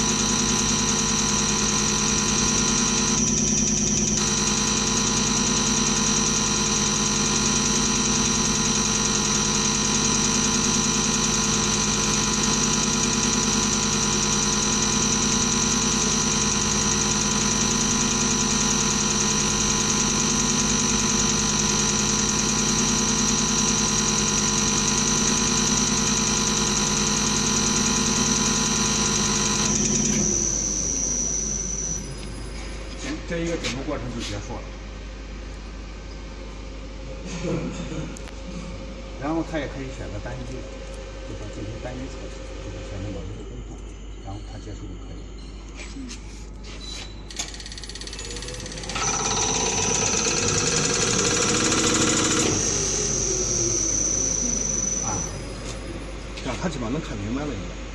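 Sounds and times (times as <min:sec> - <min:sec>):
test bench motor and pump whine: 0:00.0 - 0:57.9.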